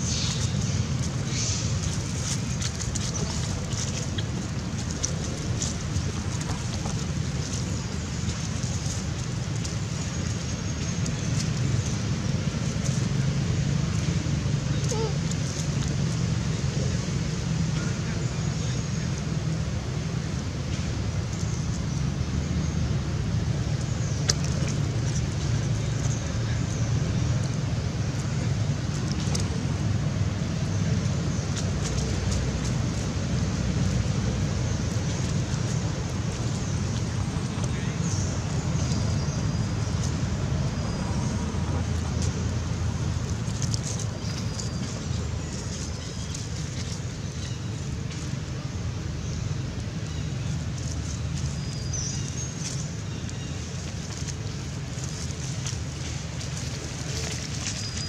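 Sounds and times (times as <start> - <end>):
dry leaves crackling: 0.0 - 17.6, 23.4 - 58.0
low outdoor rumble: 0.0 - 58.0.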